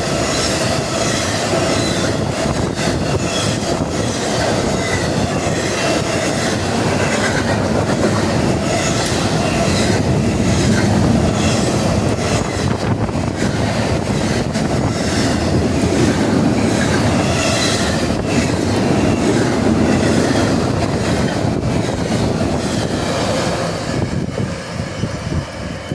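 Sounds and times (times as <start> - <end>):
train wheels clacking over rail joints: 0.0 - 23.8.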